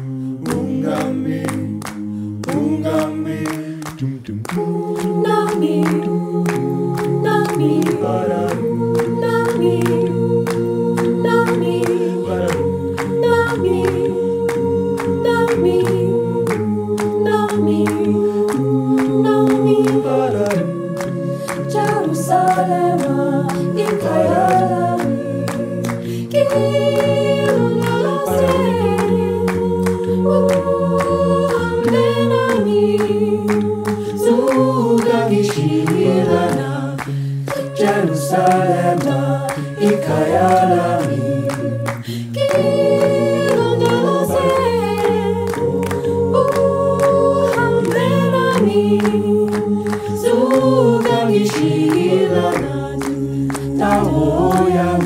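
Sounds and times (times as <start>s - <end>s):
percussive vocal clicks: 0.0s - 55.0s
vocal group singing in harmony: 0.0s - 55.0s.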